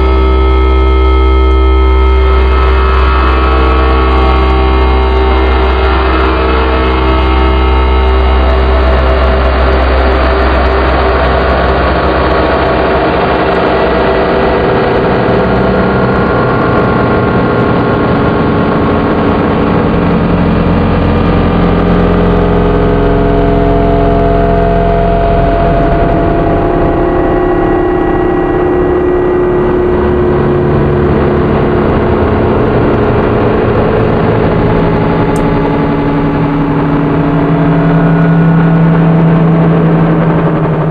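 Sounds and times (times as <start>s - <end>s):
buzzing synth drone: 0.0s - 40.9s
strong low hum: 0.0s - 40.9s.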